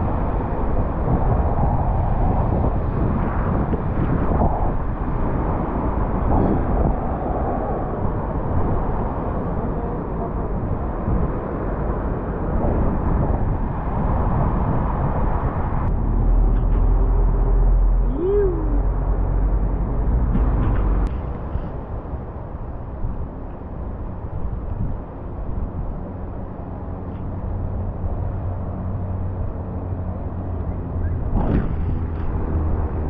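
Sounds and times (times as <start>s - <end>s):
road traffic: 0.0s - 33.0s
wind rumbling on microphone: 0.0s - 33.0s.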